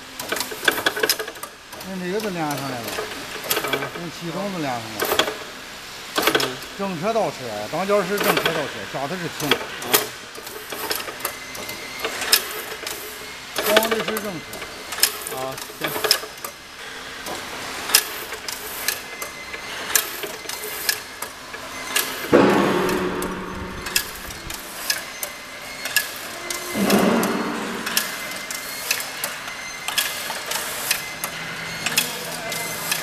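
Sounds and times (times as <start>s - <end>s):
weaving machine clacking: 0.2s - 5.5s, 6.1s - 16.6s, 17.2s - 33.0s.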